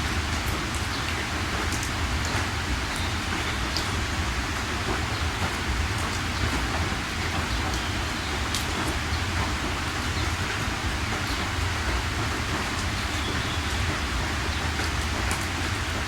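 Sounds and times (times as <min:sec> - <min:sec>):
heavy rain hissing: 0:00.0 - 0:16.0
raindrops ticking: 0:00.0 - 0:16.0.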